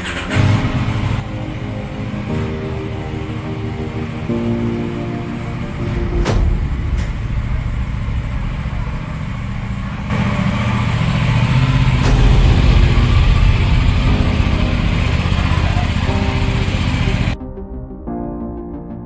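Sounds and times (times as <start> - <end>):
motorcycle engine idling: 0.0 - 17.4.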